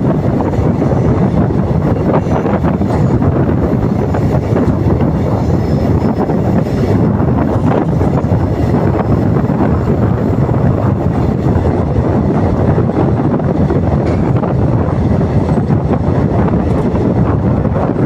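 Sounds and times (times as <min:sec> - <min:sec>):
train rumbling at speed: 0:00.0 - 0:18.0
wind buffeting microphone: 0:00.0 - 0:18.0.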